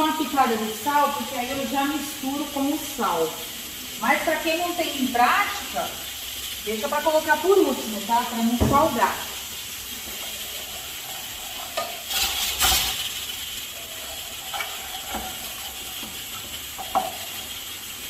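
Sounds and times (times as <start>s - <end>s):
garlic and onion sizzling in oil: 0.0s - 18.0s.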